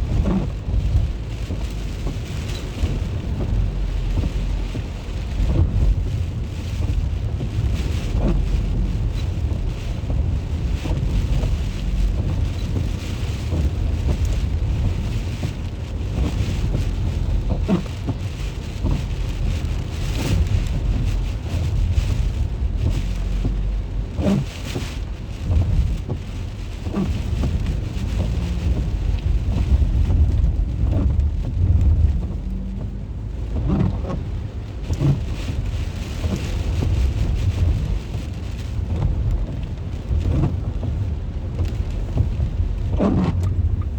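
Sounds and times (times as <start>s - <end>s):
deep low rumble: 0.0s - 43.9s
raindrops tapping nearby surfaces: 0.0s - 43.9s
steady rain falling: 0.0s - 43.9s.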